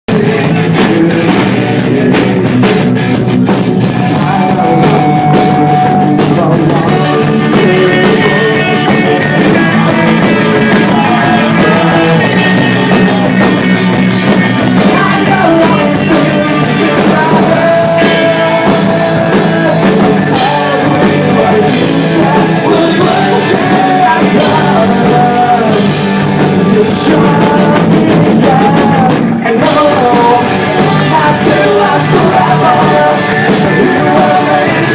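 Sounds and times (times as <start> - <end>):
person singing: 0.1 - 2.9, 3.8 - 13.7, 14.7 - 34.9
rock band playing live: 0.1 - 34.9.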